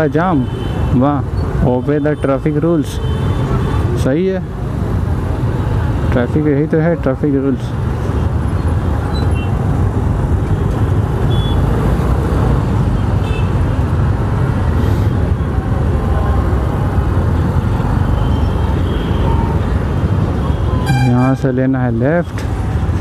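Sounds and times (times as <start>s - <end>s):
idling engines rumbling in traffic: 0.0s - 23.0s.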